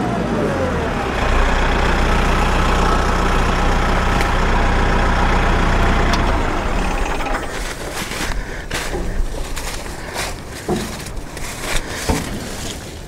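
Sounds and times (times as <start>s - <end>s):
tractor engine drone: 0.0s - 13.0s
wood chipper chipping branch: 1.1s - 13.0s.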